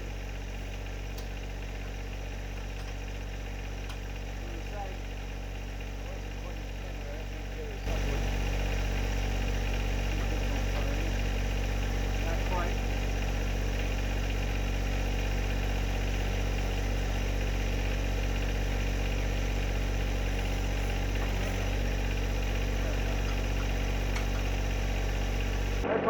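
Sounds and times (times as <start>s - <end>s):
tractor diesel engine idling: 0.0s - 26.0s.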